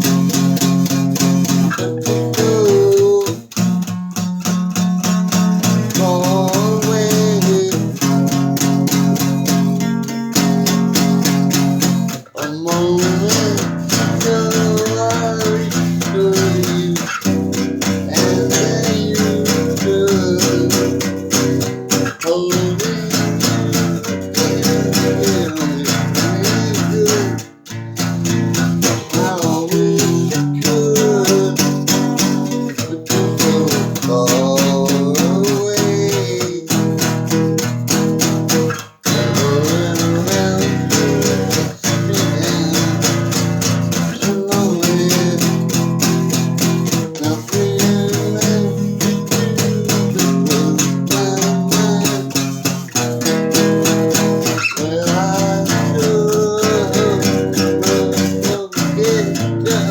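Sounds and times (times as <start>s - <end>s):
guitar strumming chords: 0.0s - 59.9s.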